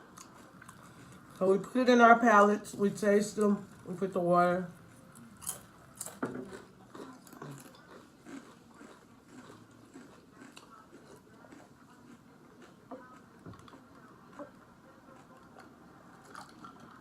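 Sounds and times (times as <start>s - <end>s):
person chewing potato chips: 0.0s - 1.8s, 5.0s - 17.0s.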